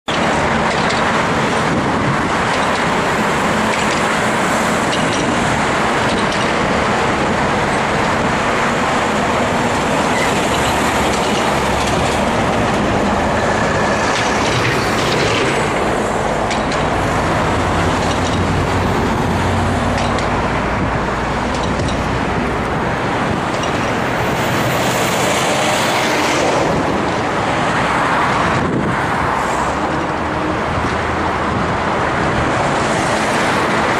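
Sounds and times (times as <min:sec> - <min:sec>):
road traffic: 0:00.0 - 0:33.9
vehicles passing: 0:00.1 - 0:33.9.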